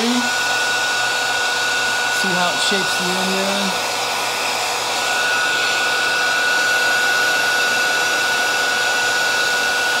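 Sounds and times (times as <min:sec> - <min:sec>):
heat gun blowing air with whine: 0:00.0 - 0:10.0.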